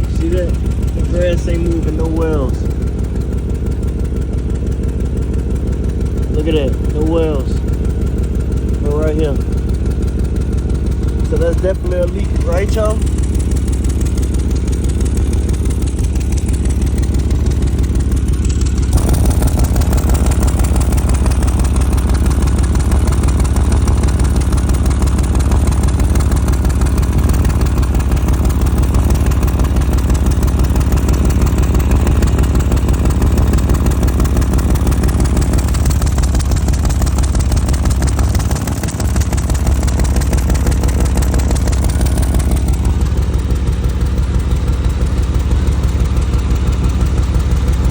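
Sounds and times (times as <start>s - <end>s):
engine idling with exhaust pulsing: 0.0s - 47.9s.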